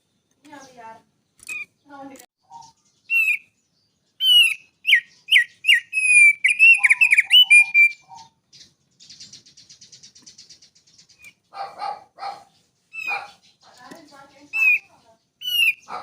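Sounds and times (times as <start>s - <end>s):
fast rattling bird trill: 0.5s - 16.0s
bird singing whistled notes: 1.4s - 11.5s, 12.8s - 16.0s.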